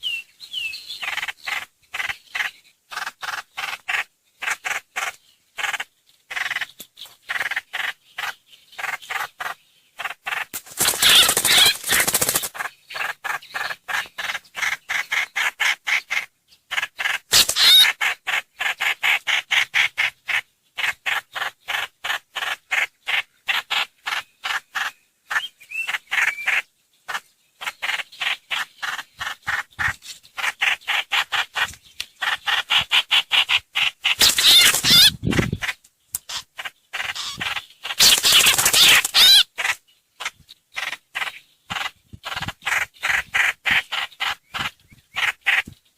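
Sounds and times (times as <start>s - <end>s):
bird chirping: 0.0s - 45.9s
bird harsh chattering: 1.0s - 45.7s.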